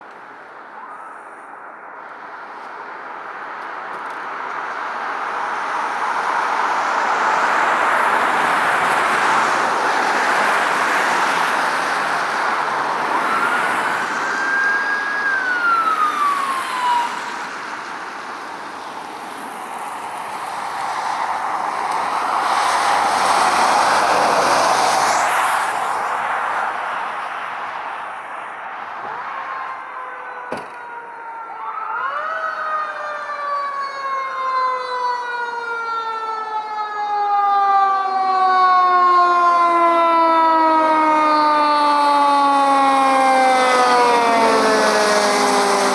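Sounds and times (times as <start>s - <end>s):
emergency vehicle siren: 0.0s - 45.9s.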